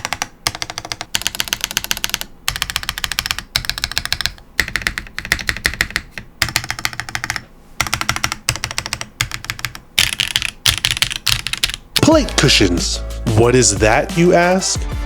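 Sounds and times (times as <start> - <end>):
fast typing on mechanical keyboard: 0.0 - 12.2.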